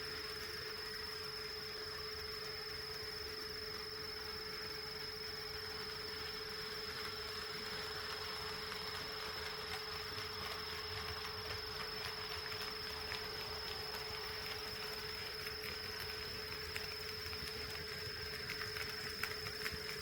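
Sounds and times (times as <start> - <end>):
mid-pitched thin whine: 0.0 - 20.0.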